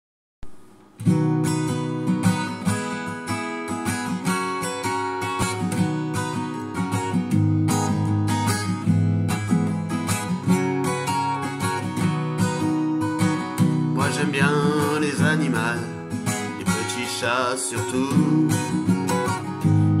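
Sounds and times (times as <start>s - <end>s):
acoustic guitar strumming: 0.4s - 20.0s.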